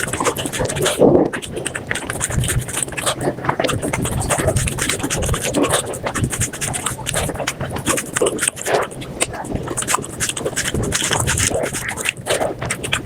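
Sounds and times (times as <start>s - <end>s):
mouth crunching and chewing food: 0.0s - 13.0s.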